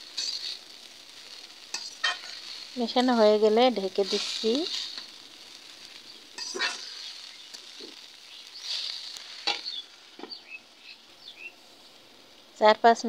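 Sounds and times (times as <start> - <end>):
spatula stirring greens in a pan: 0.0 - 12.4
light sizzle: 0.0 - 13.0.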